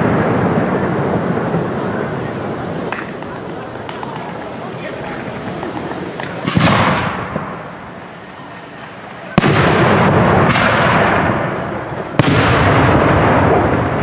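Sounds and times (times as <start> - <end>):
rolling echo of bangs: 0.0 - 7.8, 9.4 - 14.0
firework crackle: 0.0 - 14.0
firework shells bursting: 0.0 - 14.0.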